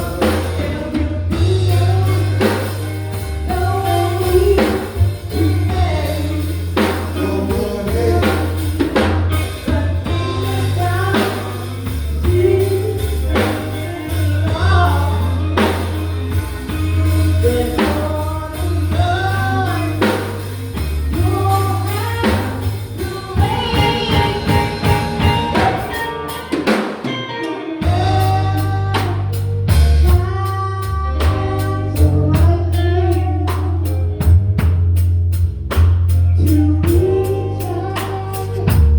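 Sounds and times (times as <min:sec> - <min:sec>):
busy drum pattern: 0:00.0 - 0:30.6, 0:31.2 - 0:37.4
lead singer singing: 0:00.0 - 0:34.4, 0:36.2 - 0:38.9
live gospel band playing: 0:00.0 - 0:38.9.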